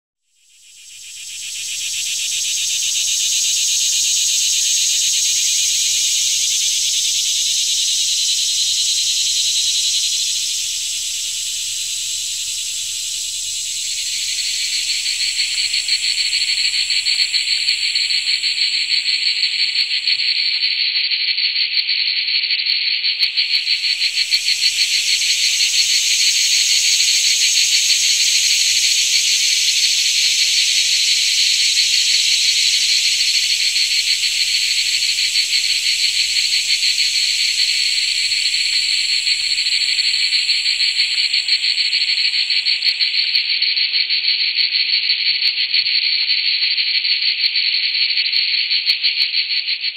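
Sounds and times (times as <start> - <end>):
insects high-pitched buzz: 0.3 - 21.2, 23.0 - 43.6
fast pulsing insect rasp: 0.5 - 20.6, 23.2 - 43.4.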